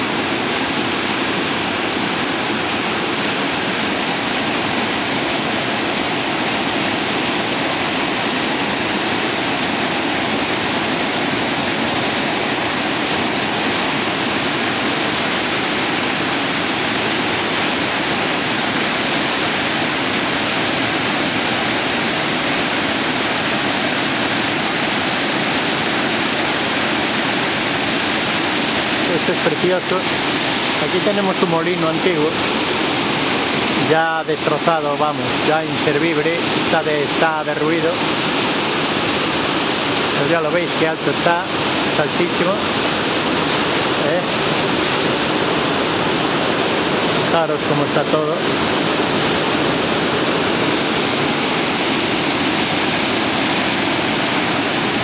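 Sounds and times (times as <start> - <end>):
waterfall rushing into a pool: 0.0 - 55.0.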